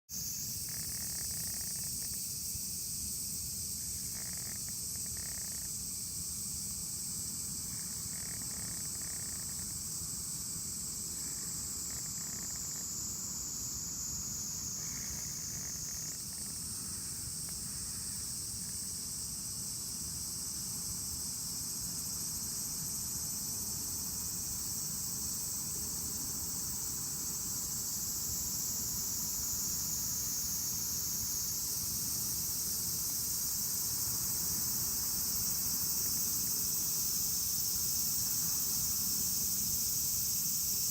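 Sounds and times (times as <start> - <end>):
cicadas singing: 0.1 - 40.9.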